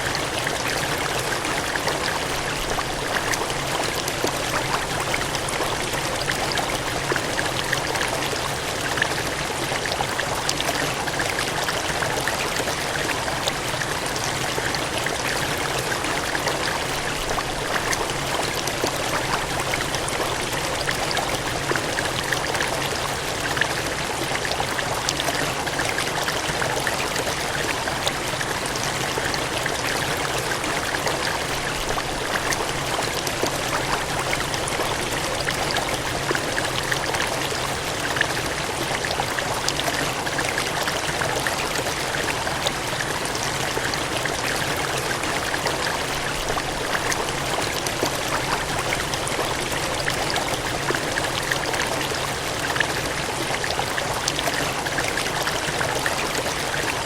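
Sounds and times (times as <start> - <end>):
water gushing and cascading: 0.0 - 57.0.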